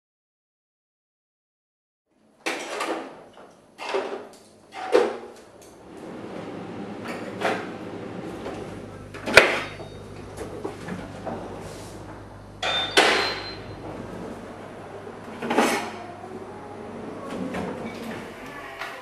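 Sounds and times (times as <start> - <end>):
drawers opening and closing: 2.4 - 19.0.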